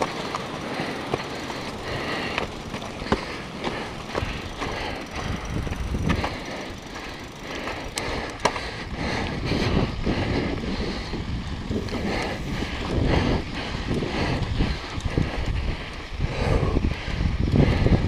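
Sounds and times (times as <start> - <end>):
tyres crunching on gravel: 0.0 - 15.4
bike rattling over bumps: 0.0 - 18.0
wind buffeting microphone: 0.0 - 18.0.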